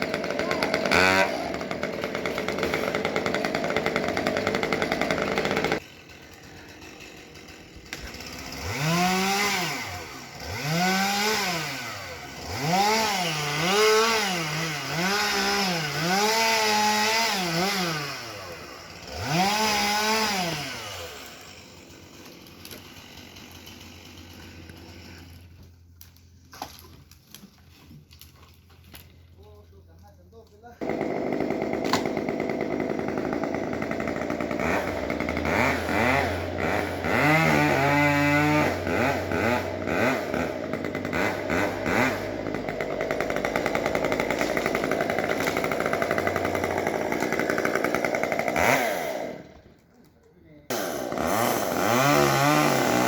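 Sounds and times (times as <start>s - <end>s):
chainsaw revving: 0.0s - 25.6s, 30.8s - 49.6s, 50.7s - 53.0s.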